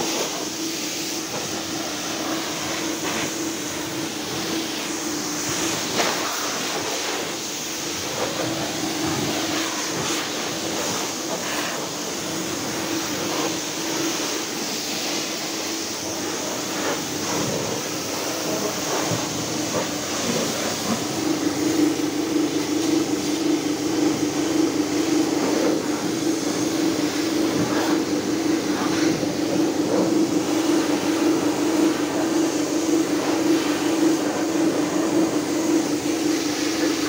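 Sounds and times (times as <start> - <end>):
pressure washer pump humming: 0.0 - 37.0
water jet hissing: 0.0 - 37.0.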